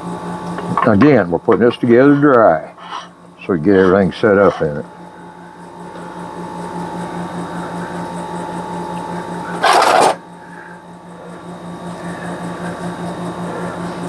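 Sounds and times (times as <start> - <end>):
pulsing machine hum: 0.0 - 14.0.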